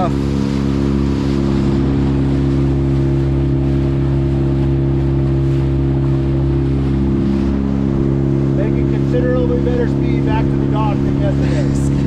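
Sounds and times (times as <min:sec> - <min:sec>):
boat motor running: 0:00.0 - 0:12.0
water noise: 0:00.0 - 0:12.0.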